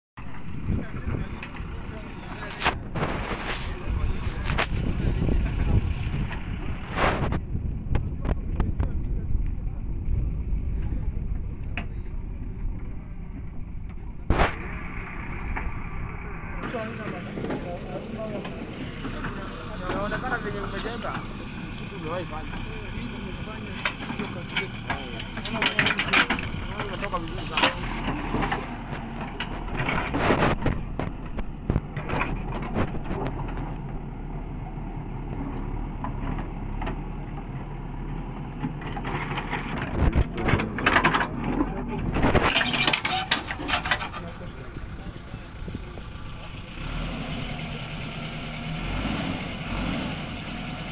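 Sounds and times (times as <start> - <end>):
diesel engine low rumble: 0.2 - 50.9.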